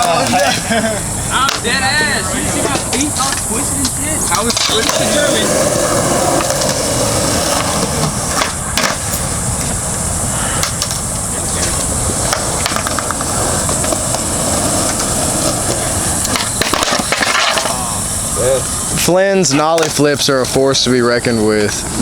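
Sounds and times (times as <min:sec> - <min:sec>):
skateboard clacks: 0:00.0 - 0:18.9, 0:19.5 - 0:20.6
cicadas droning: 0:00.0 - 0:22.0
skateboard wheels on concrete: 0:00.0 - 0:22.0.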